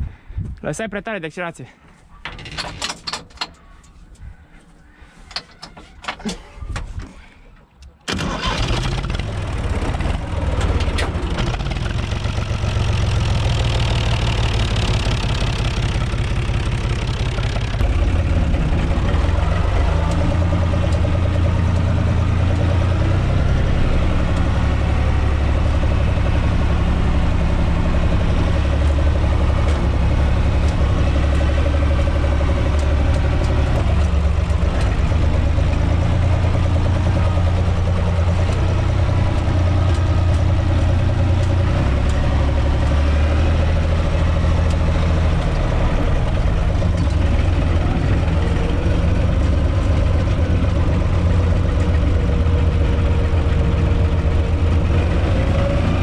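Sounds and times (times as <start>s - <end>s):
diesel tractor engine running: 7.6s - 56.0s.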